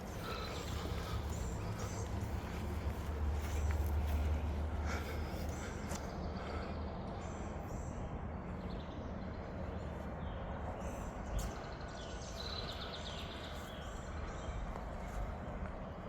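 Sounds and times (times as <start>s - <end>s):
birds chirping: 0.0s - 16.0s
low background noise: 0.0s - 16.0s.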